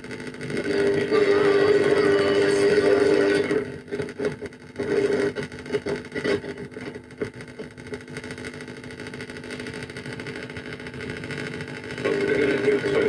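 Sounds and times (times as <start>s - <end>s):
faint muffled radio broadcast: 0.0s - 13.0s
radio hiss and hum: 0.0s - 13.0s.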